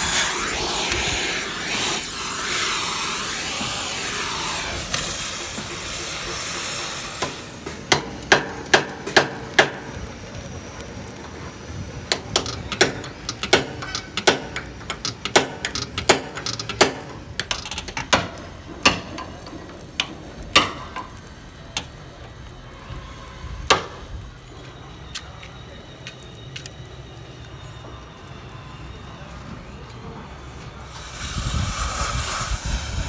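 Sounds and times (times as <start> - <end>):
gas torch hissing: 0.0 - 33.0.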